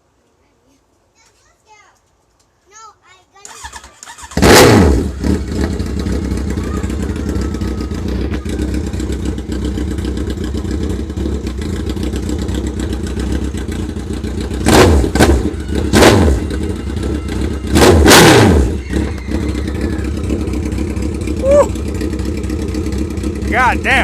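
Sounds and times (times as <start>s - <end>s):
engine revving: 3.6s - 24.0s
motorcycle engine idling: 4.0s - 24.0s.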